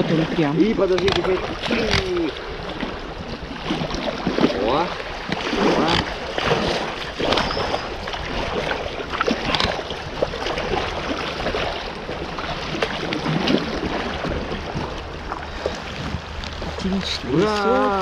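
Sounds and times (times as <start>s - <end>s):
water splashes: 0.0s - 18.0s.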